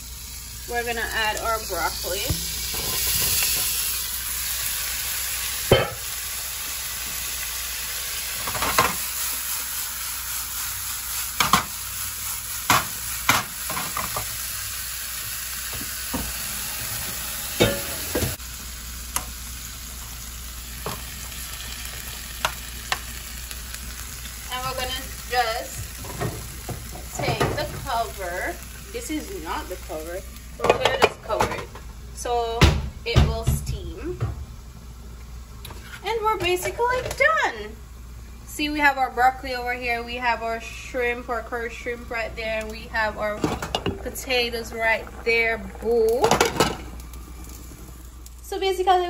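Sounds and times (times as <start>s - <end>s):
vegetables sizzling in butter: 0.0s - 32.6s, 38.6s - 49.0s.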